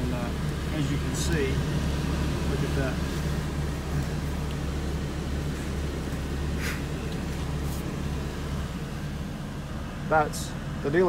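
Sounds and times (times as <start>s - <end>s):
truck diesel engine humming: 0.0s - 11.0s.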